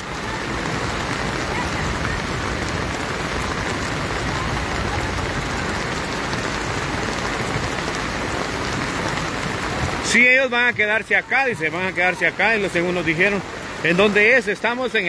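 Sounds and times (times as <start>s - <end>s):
heavy rain on wet pavement: 0.0s - 15.0s.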